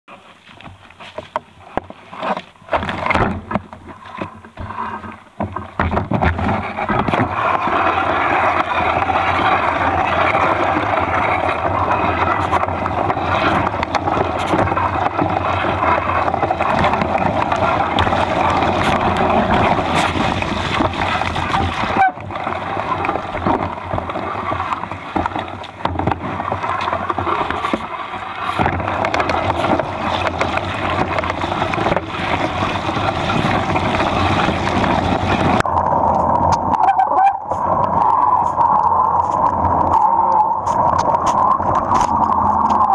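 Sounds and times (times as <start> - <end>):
bike frame rattling: 0.7 - 35.7.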